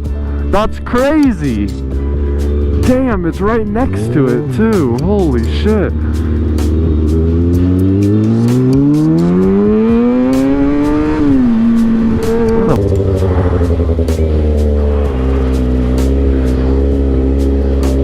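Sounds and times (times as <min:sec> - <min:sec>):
background music with beat: 0:00.0 - 0:18.0
motorcycle engine accelerating: 0:01.6 - 0:18.0.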